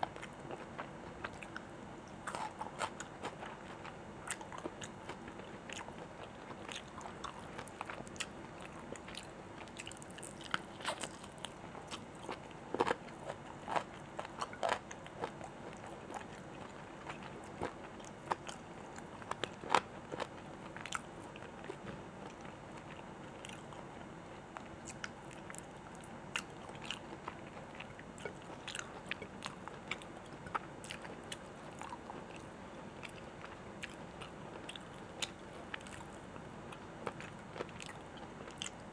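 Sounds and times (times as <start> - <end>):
chewing and biting food: 0.0 - 23.9, 24.6 - 38.9.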